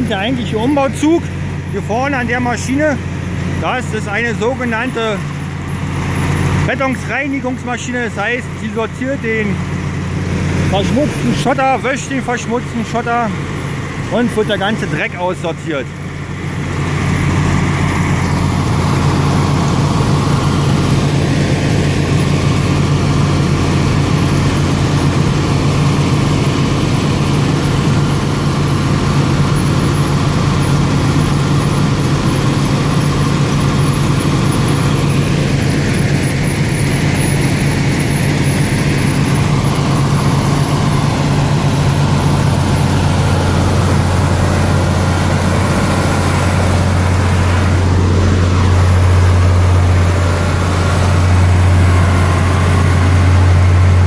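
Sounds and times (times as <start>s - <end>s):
constant low hum: 0.0s - 54.0s
loud machine din: 0.0s - 54.0s.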